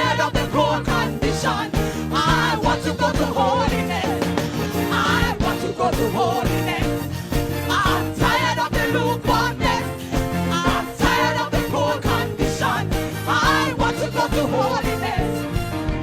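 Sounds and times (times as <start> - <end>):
gospel singing with band: 0.0 - 16.0.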